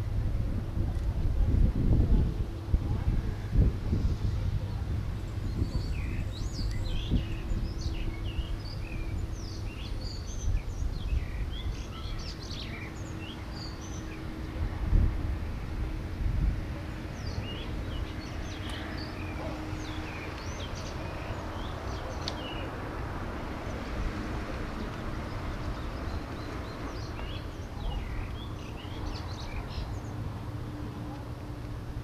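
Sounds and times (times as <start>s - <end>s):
small birds chirping: 3.9s - 14.7s, 16.7s - 31.8s.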